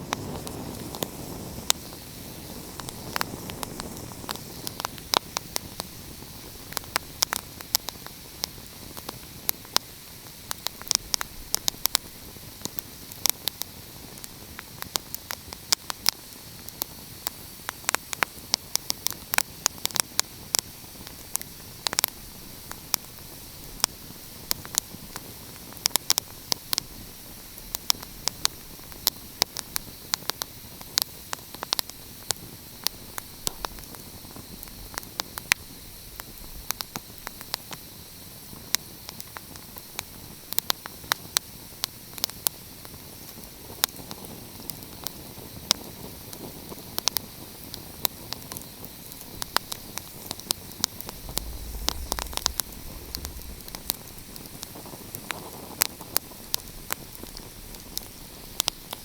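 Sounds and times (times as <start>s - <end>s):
steady hiss: 0.0s - 59.0s
wood fire crackling: 0.0s - 59.0s.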